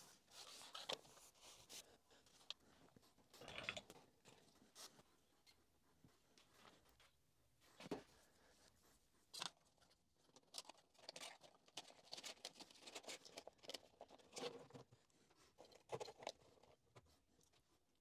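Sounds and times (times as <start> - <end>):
light clicks and crinkly rustles: 0.0 - 18.0.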